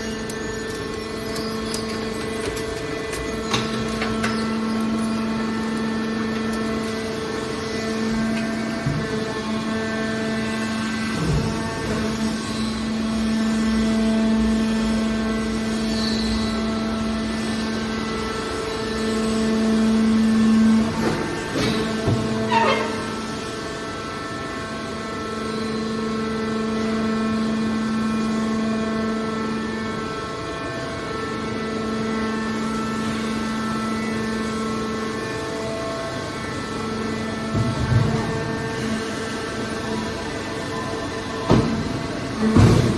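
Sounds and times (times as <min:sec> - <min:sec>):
baler machinery humming: 0:00.0 - 0:42.9.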